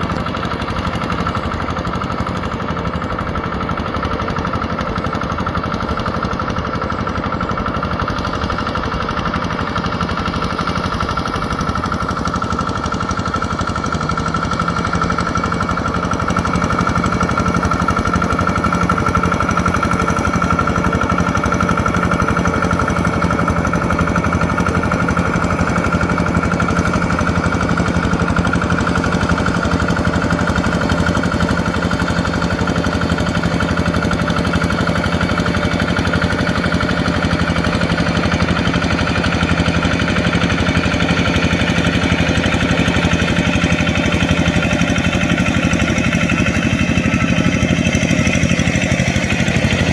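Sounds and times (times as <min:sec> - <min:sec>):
tractor diesel engine clattering: 0:00.0 - 0:49.9.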